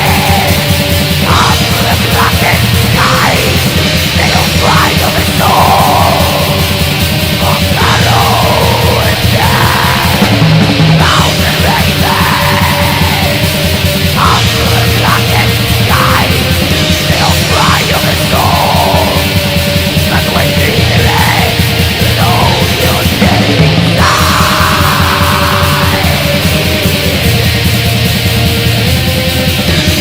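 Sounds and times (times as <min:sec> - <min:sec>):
harsh screamed vocals: 0:00.0 - 0:28.2
distorted guitars: 0:00.0 - 0:30.0
fast drumming: 0:00.0 - 0:30.0.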